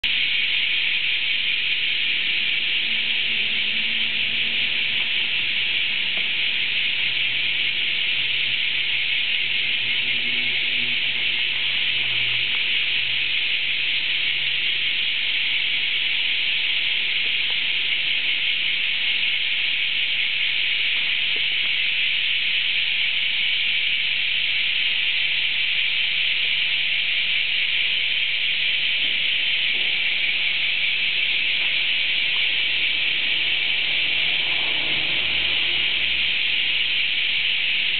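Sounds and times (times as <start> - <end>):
cicadas chorus: 0.0 - 37.9.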